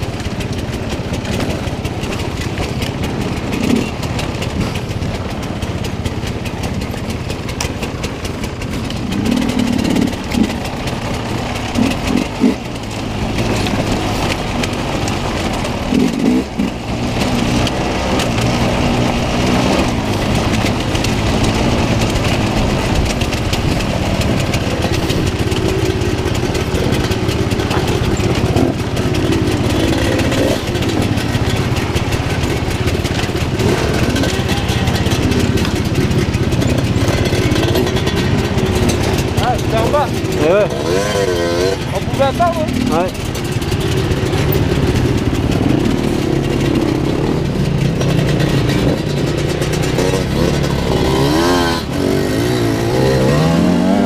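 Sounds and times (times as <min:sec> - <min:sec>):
bike knocking on rocks: 0:00.0 - 0:50.7
dirt bike engine revving: 0:00.0 - 0:54.0.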